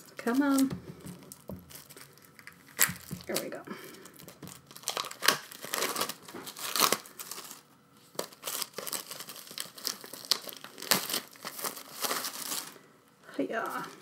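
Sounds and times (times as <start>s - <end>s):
packaging crinkling and tearing: 0.0s - 12.8s.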